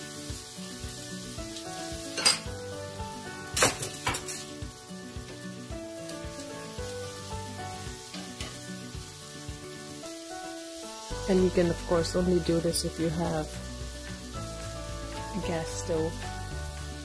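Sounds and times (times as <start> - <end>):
food sizzling: 0.0 - 17.0
slow background music: 0.0 - 17.0.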